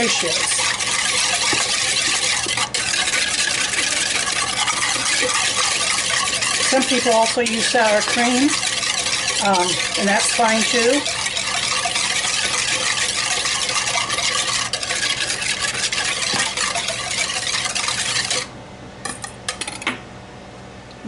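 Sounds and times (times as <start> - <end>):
whisk scraping against bowl: 0.0 - 18.5.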